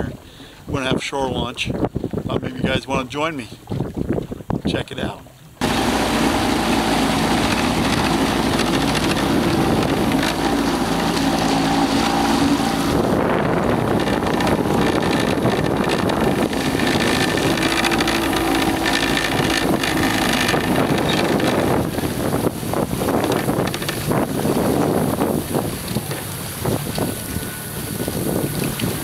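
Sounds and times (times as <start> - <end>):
water rushing past hull: 0.0 - 29.0
wind buffeting microphone: 0.0 - 29.0
outboard motor running: 3.5 - 29.0.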